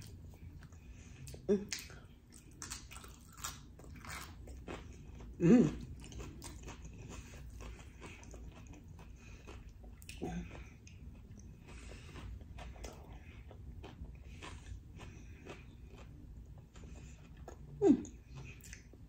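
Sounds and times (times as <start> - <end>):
wet chewing and mouth clicks: 0.0 - 19.0.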